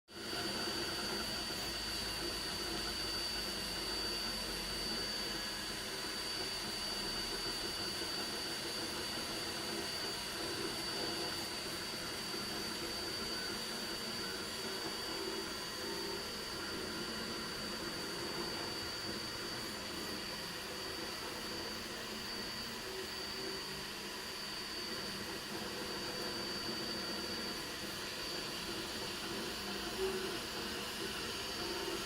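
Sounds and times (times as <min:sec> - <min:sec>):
printer whirring with high whine: 0:00.1 - 0:32.0.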